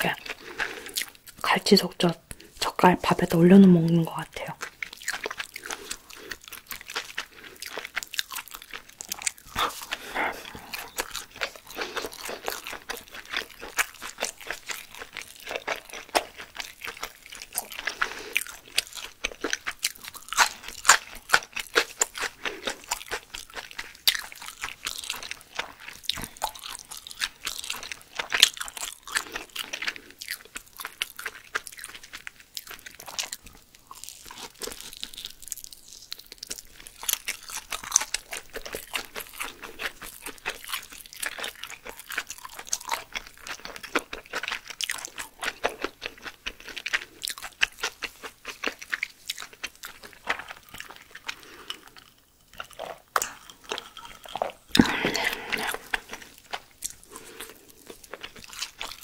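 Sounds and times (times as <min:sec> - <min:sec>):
chewing with mouth clicks: 0:00.0 - 0:01.4, 0:02.3 - 0:59.0.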